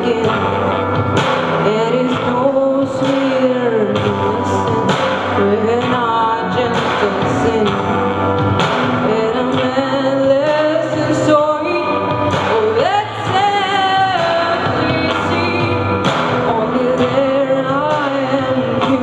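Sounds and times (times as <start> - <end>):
music with singing voice: 0.0 - 19.0.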